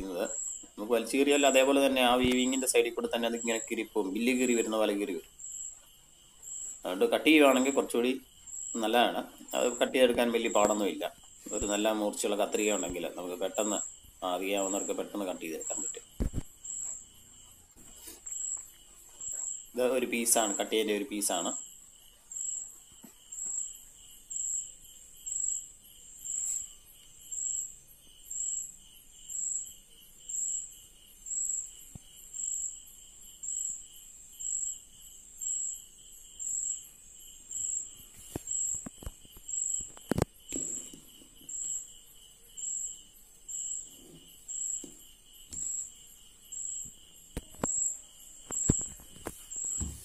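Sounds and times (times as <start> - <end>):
insect chirping: 0.0 - 50.0.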